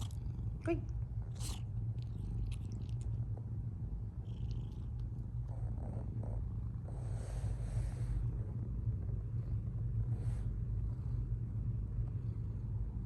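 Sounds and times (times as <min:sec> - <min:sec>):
kitten purring: 0:00.0 - 0:11.7.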